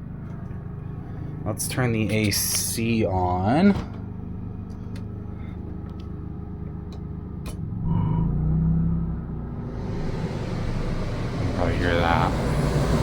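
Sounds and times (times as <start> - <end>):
air conditioner running: 0.0 - 7.4, 9.6 - 13.0.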